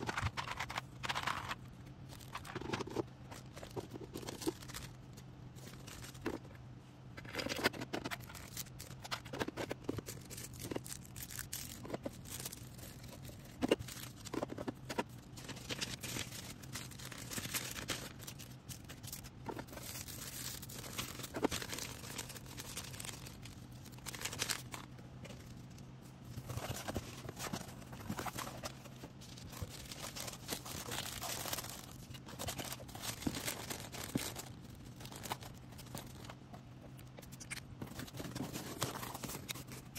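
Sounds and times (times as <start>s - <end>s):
plastic packaging crinkling: 0.0s - 6.6s, 7.3s - 36.4s, 37.2s - 39.9s.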